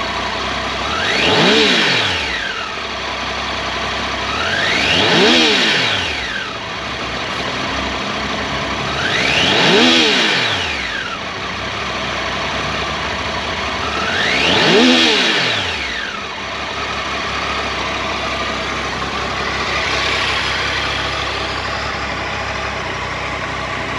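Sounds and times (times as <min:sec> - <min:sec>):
motorcycle engine idling and revving: 0:00.0 - 0:23.9.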